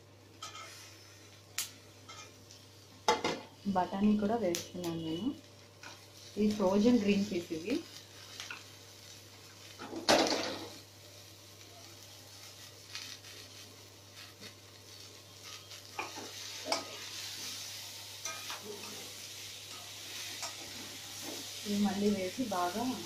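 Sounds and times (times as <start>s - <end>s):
vegetables sizzling in wok: 0.0s - 23.0s.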